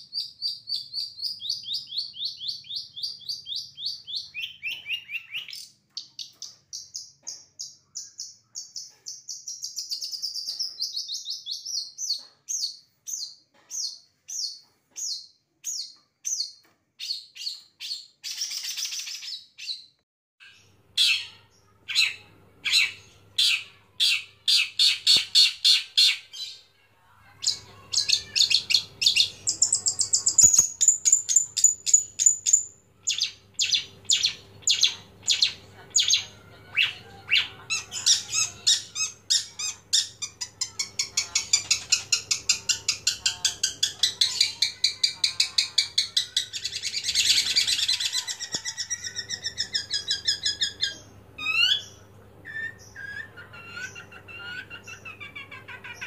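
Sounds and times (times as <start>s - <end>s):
bird chattering song: 0.0s - 26.6s, 27.3s - 56.0s.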